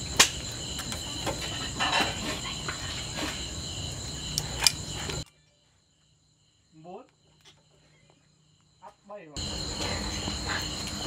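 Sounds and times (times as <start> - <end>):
night crickets chirping: 0.0 - 11.0.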